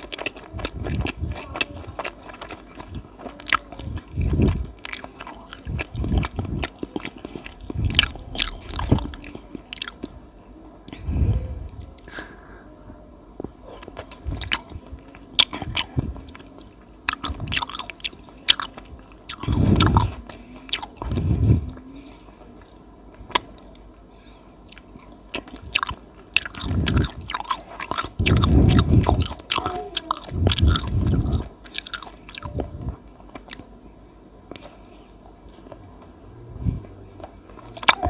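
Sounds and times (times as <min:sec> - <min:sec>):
chewing soft food: 0:00.0 - 0:12.4, 0:13.4 - 0:33.7, 0:36.8 - 0:38.0.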